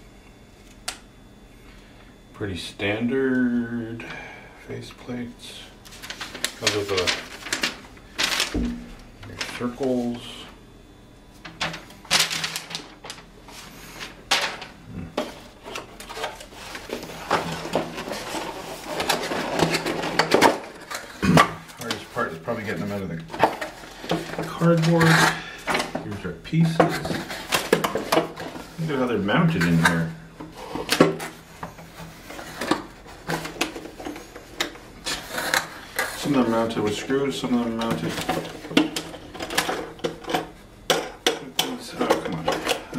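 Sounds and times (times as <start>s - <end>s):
steady low hum: 0.0s - 42.9s
cardboard and plastic rustling: 5.8s - 10.4s, 11.3s - 42.9s.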